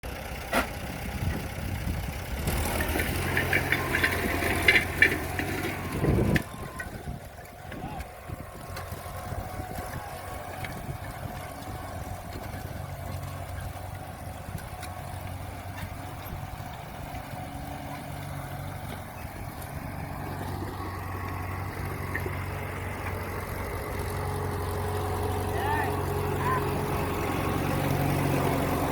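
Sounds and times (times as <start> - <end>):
tractor engine idling: 0.0 - 28.9.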